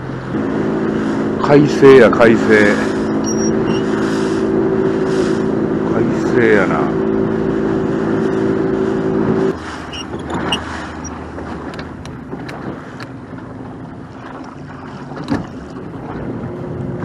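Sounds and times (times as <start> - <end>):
boat engine running: 0.0 - 17.0
boat hook splashing water: 0.0 - 17.0
water lapping at hull: 0.0 - 17.0.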